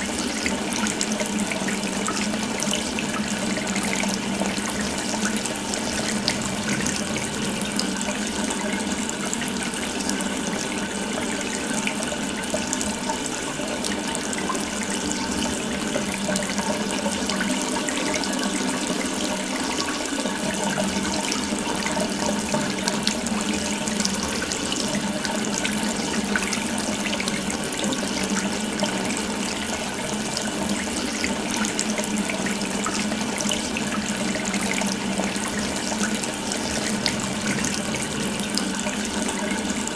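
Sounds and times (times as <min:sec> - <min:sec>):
water running from tap: 0:00.0 - 0:39.9.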